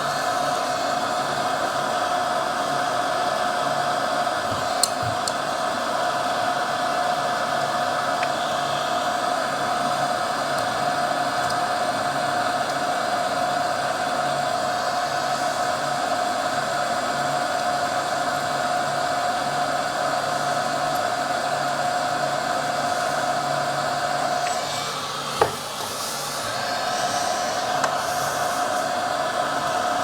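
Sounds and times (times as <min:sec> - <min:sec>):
hot-air blower whoosh and whine: 0:00.0 - 0:30.0.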